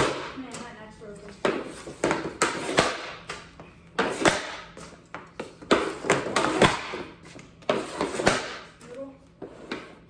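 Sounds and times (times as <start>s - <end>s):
hockey stick slapping pucks: 0.0s - 8.8s.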